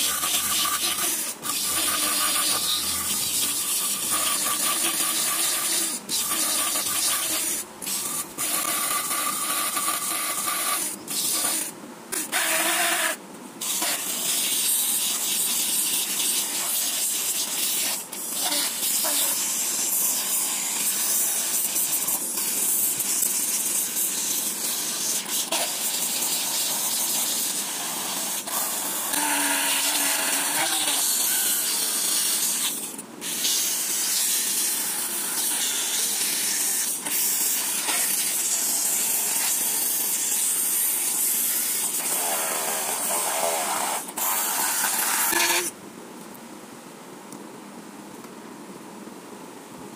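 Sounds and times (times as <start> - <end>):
motor bit grinding on sandpaper: 0.0 - 19.4, 23.6 - 45.7.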